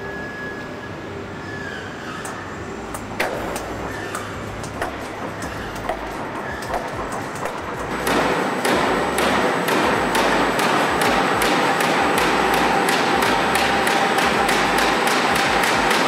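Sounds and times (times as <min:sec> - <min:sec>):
stamping press striking rhythmically: 0:03.0 - 0:16.0.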